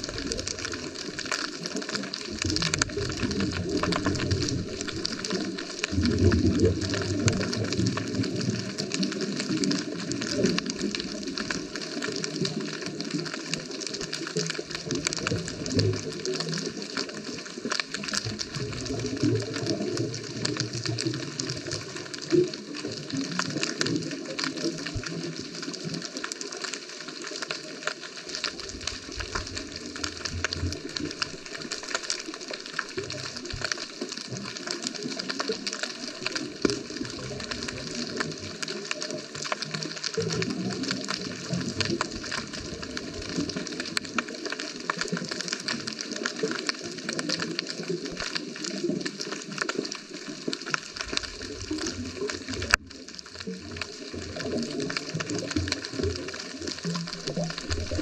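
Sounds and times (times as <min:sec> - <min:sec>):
underwater crackle of fine clicks: 0:00.0 - 0:58.0.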